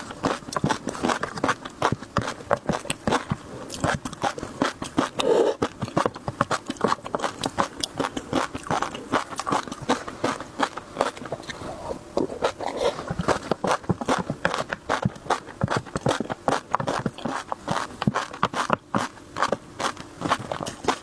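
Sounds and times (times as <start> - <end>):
chewing crunchy food: 0.0 - 21.0.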